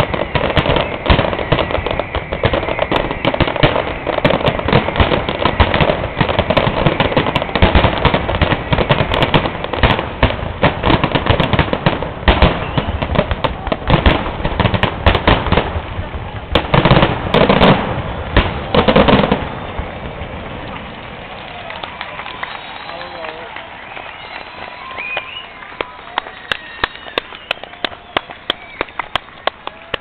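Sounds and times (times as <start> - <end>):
fireworks cracks and bangs: 0.0 - 30.0.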